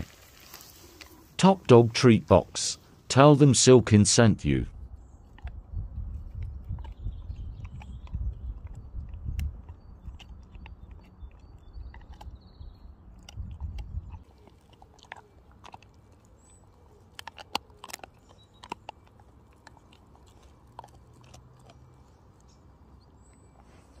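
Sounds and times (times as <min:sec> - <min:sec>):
dog gnawing a bone chew: 0:04.7 - 0:24.0.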